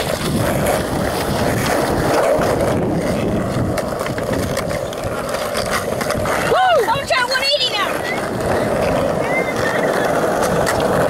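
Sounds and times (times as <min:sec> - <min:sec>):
skateboard wheels rolling on asphalt: 0:00.0 - 0:11.0.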